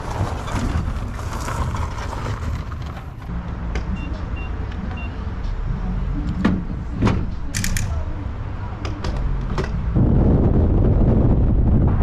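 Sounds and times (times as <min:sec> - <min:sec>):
low vehicle rumble: 0:00.0 - 0:12.0
wind: 0:00.0 - 0:12.0.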